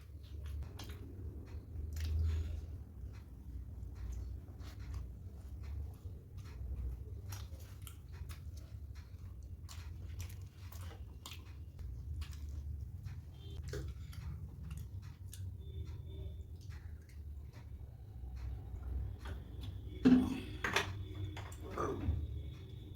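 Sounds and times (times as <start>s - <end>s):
chewing with wet mouth clicks: 0.0s - 20.1s.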